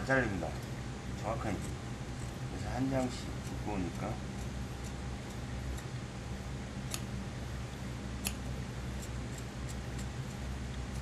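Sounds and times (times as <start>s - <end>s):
shears snipping cloth: 0.0s - 6.0s, 6.8s - 7.1s, 8.2s - 11.0s
steady low hum: 0.0s - 11.0s.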